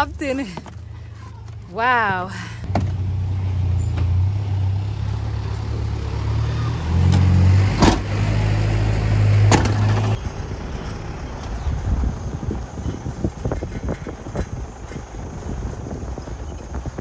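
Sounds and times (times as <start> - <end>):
vehicle engine idling: 0.0 - 7.2, 8.4 - 17.0.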